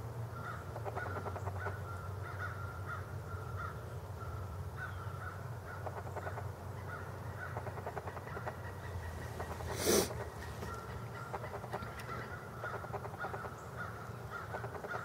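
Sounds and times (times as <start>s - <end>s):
low steady hum: 0.0s - 15.0s
faint harsh bird calls: 0.4s - 15.0s.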